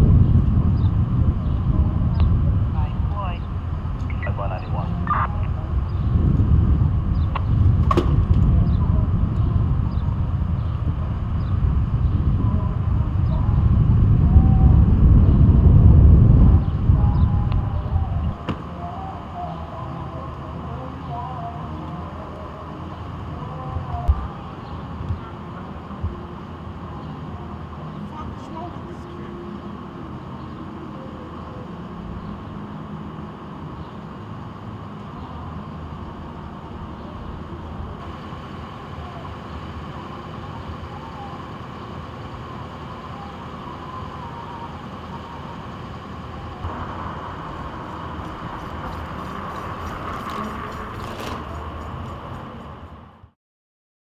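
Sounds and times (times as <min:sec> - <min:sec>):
faint engine hum: 0:00.0 - 0:53.4
motor vehicle rumble: 0:00.0 - 0:53.4.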